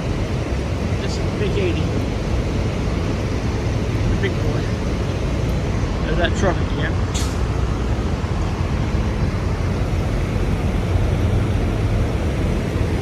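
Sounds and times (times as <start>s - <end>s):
diesel truck engines idling: 0.0s - 13.0s.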